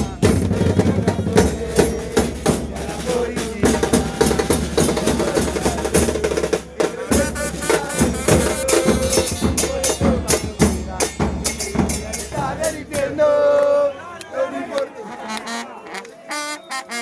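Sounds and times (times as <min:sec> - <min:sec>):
drums beaten fast: 0:00.0 - 0:13.9
voices: 0:00.0 - 0:17.0.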